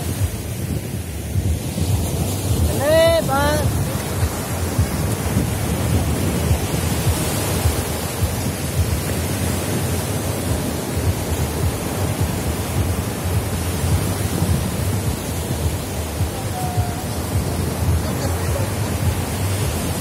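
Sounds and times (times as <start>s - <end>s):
surf breaking on a beach: 0.0s - 20.0s
wind rumbling on microphone: 0.0s - 20.0s.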